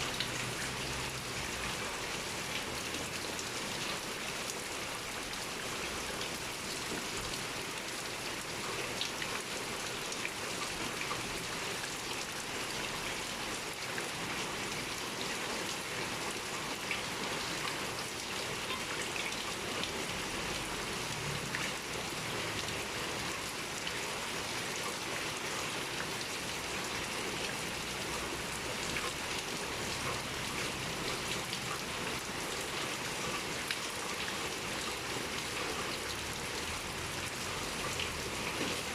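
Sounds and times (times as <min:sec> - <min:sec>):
raindrops tapping on surfaces: 0:00.0 - 0:13.2, 0:13.9 - 0:24.0, 0:24.7 - 0:38.9
heavy rain pouring: 0:00.0 - 0:38.9.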